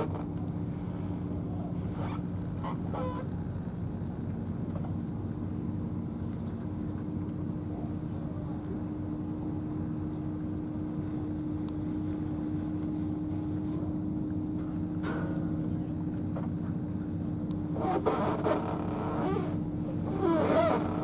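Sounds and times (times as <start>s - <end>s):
engine droning steadily: 0.0s - 21.0s.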